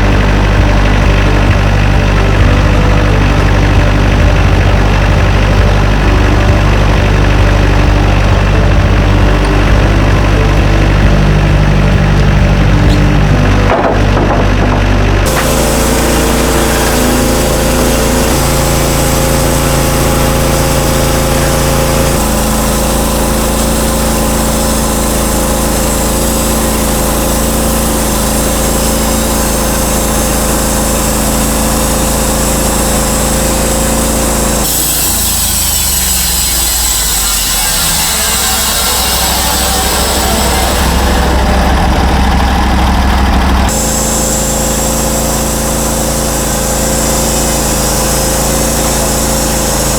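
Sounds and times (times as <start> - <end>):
sawmill gas engine running: 0.0 - 49.9.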